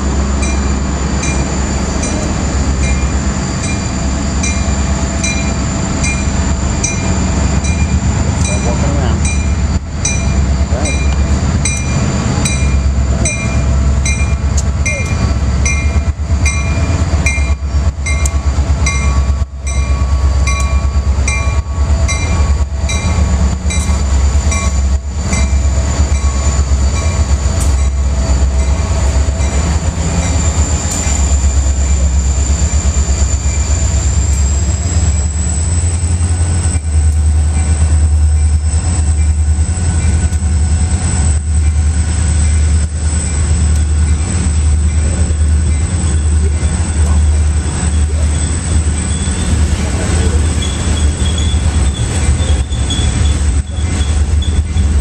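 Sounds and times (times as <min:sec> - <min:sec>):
diesel locomotive engine rumble: 0:00.0 - 0:55.0
freight cars rolling: 0:00.0 - 0:55.0.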